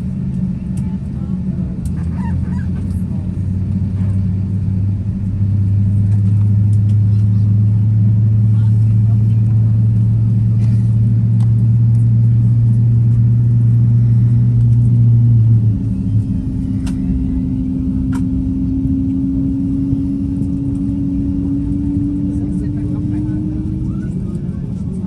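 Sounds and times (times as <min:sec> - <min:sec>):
jet engines rumbling: 0:00.0 - 0:25.0
strong low hum: 0:00.0 - 0:25.0.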